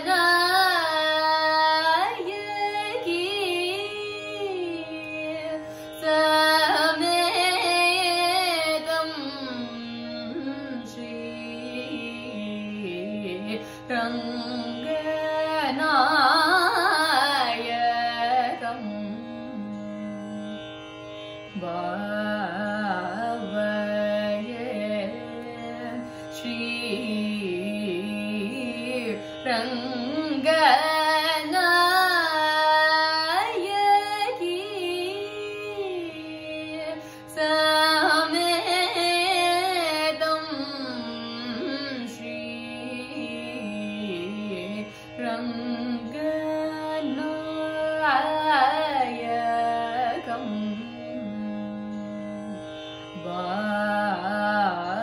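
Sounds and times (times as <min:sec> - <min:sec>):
woman singing: 0:00.0 - 0:20.6, 0:21.5 - 0:55.0.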